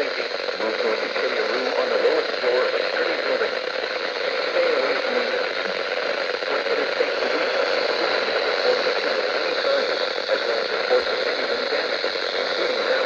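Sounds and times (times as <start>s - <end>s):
faint indistinct voices: 0.0s - 13.0s
radio static hiss: 0.0s - 13.0s.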